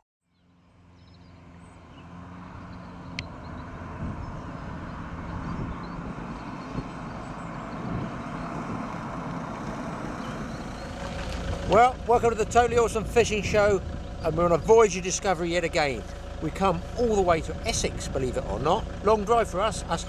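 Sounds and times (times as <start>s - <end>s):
car engine and tyre noise: 0.3s - 20.0s.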